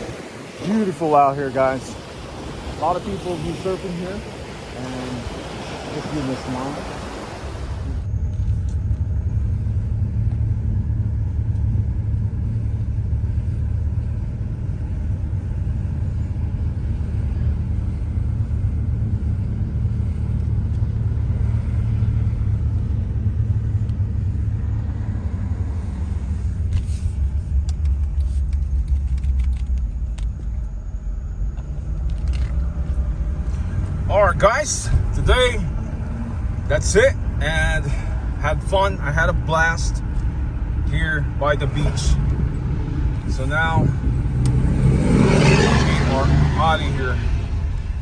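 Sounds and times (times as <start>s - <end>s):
car road rumble: 0.0s - 48.0s.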